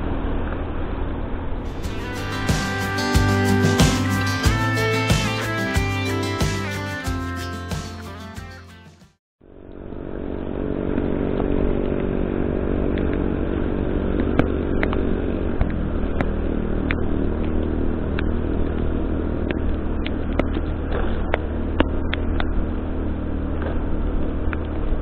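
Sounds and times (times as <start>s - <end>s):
road noise: 0.0s - 8.3s, 9.4s - 25.0s
vehicle engine running: 0.0s - 8.3s, 9.4s - 25.0s.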